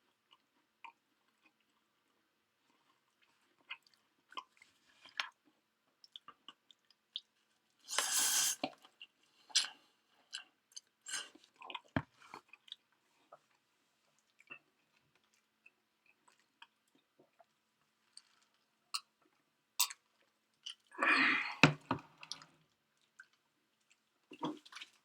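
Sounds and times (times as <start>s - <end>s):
person chewing food: 0.0s - 7.4s, 8.0s - 20.9s.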